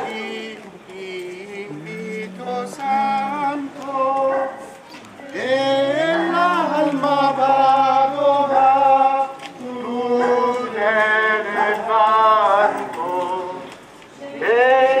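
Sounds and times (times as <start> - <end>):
voices singing a slow hymn: 0.0 - 15.0.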